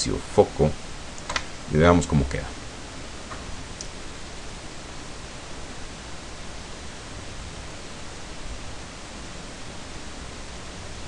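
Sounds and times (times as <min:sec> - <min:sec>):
steady recording hiss: 0:00.0 - 0:11.0.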